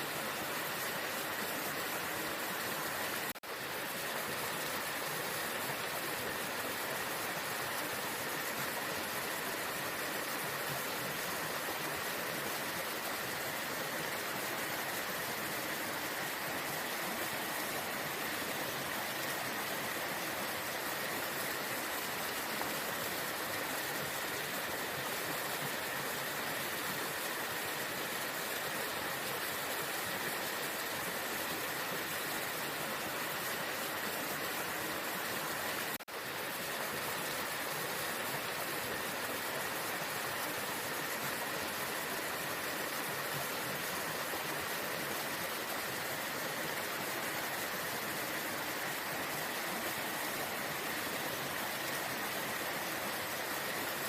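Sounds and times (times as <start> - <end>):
waterfall rushing: 0.0 - 37.6, 38.2 - 54.0.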